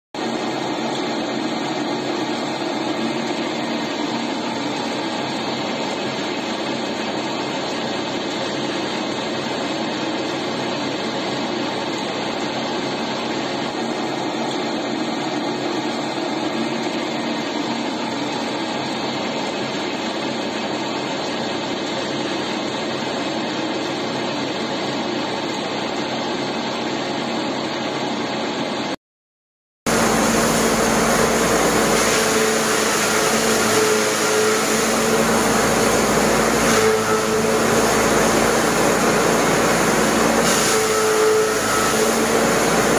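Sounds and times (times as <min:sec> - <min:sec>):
pellet mill running: 0:00.2 - 0:28.9, 0:29.9 - 0:42.9.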